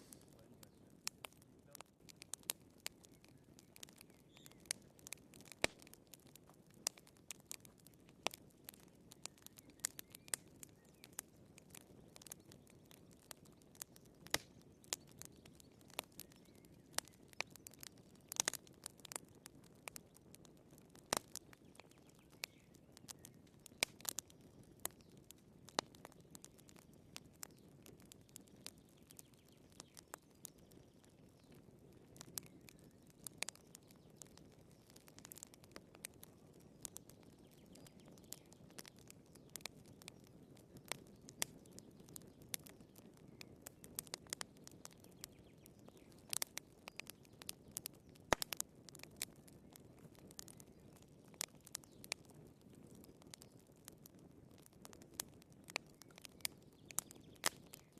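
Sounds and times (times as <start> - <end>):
low rush of flames: 0.0 - 57.8
wood fire crackling and popping: 0.0 - 57.9.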